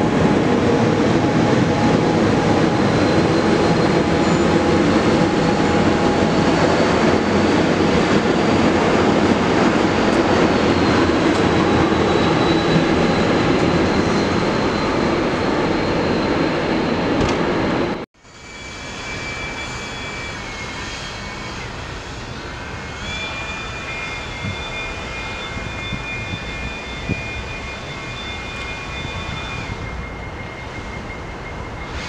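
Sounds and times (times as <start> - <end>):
train wheels rushing on rails: 0.0 - 32.0.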